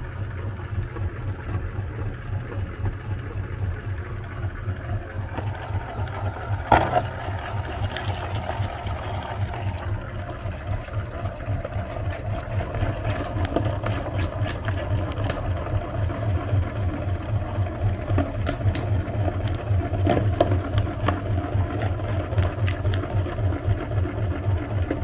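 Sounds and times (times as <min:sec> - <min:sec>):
meat grinder motor running: 0:00.0 - 0:25.0.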